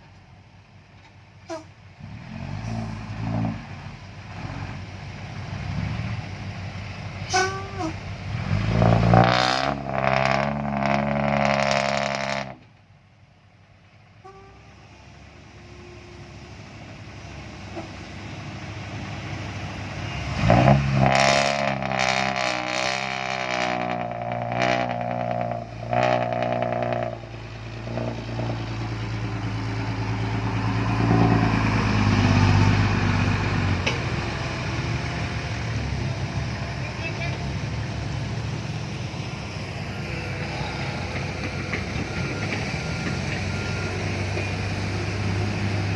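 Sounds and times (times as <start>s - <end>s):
excavator diesel engine revving: 2.0s - 12.7s, 14.4s - 45.9s.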